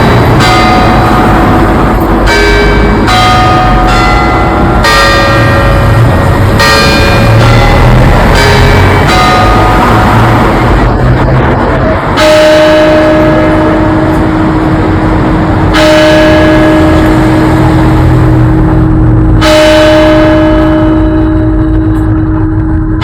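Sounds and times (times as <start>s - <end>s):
clock bell striking: 0.0s - 23.0s.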